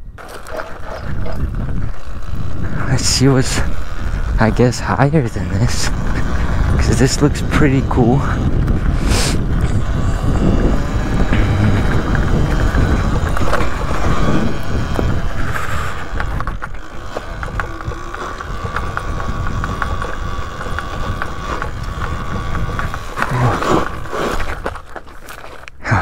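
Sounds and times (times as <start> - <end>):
electric motor whine: 0.0 - 26.0
tyres clattering over rough ground: 0.0 - 26.0
wind rumble on microphone: 0.0 - 26.0.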